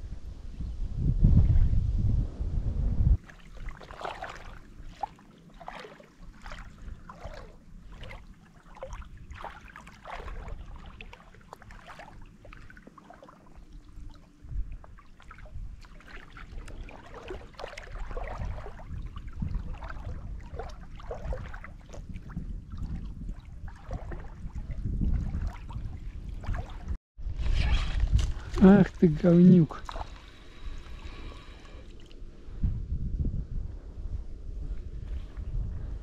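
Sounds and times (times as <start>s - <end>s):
wind rumbling on microphone: 0.0s - 5.1s, 6.2s - 12.8s, 13.4s - 36.0s
river water splashing and gurgling: 3.2s - 32.5s.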